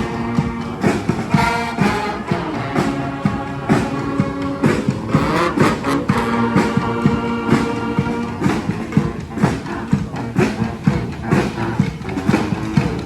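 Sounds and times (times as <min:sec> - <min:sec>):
street brass band playing: 0:00.0 - 0:13.0.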